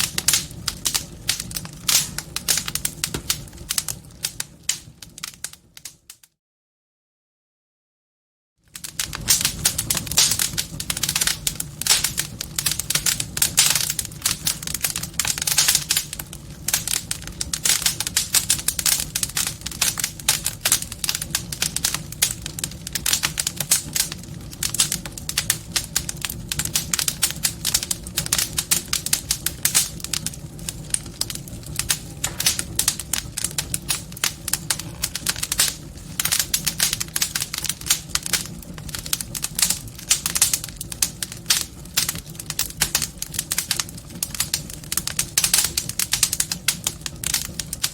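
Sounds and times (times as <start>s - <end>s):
wood fire crackling: 0.0s - 6.3s, 8.6s - 47.9s.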